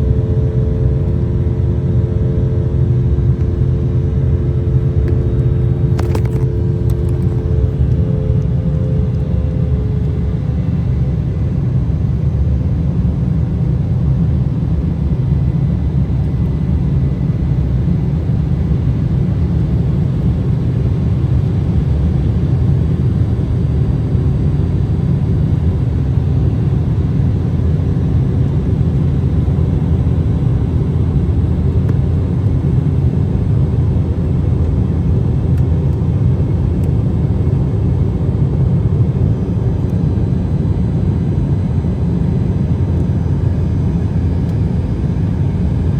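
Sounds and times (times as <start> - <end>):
jet cabin engine rumble: 0.0 - 45.9.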